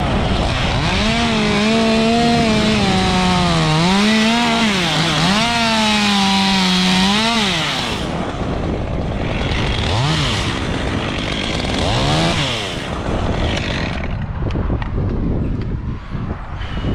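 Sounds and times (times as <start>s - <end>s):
chainsaw cutting wood: 0.0s - 14.3s.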